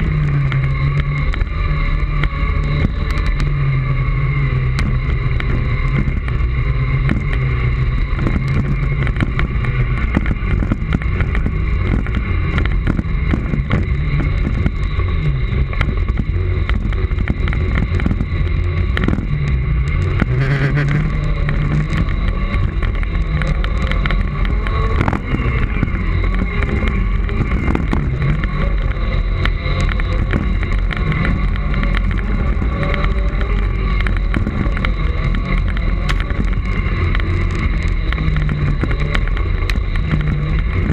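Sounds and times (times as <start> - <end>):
low rumble over dirt: 0.0 - 40.9
steady high whine: 0.0 - 40.9
wind buffeting microphone: 0.0 - 40.9.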